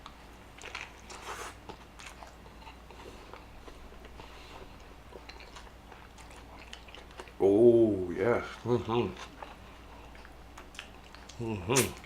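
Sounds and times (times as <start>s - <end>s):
chewing and wet smacks: 0.0s - 7.4s, 8.4s - 12.0s.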